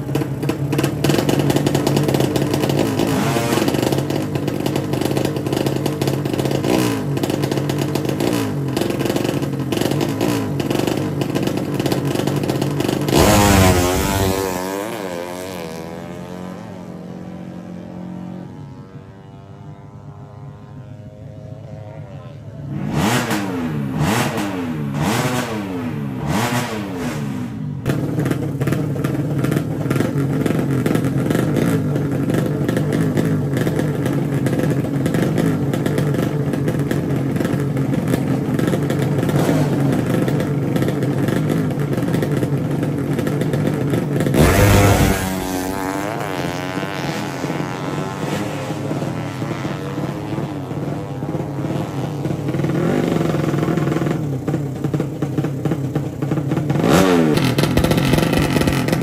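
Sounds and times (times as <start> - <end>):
motorcycle accelerating away: 0.0 - 59.0
motorcycle engines revving: 0.0 - 59.0.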